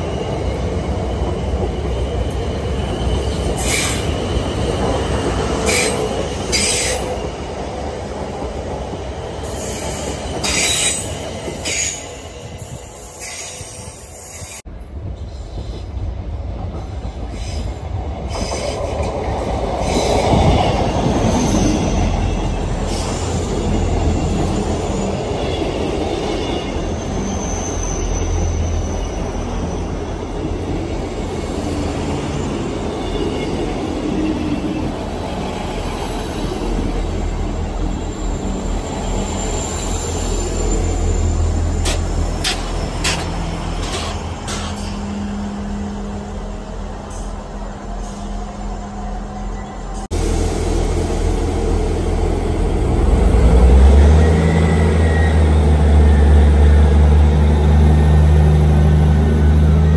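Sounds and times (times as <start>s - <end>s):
electric train rumbling past: 0.0s - 59.9s.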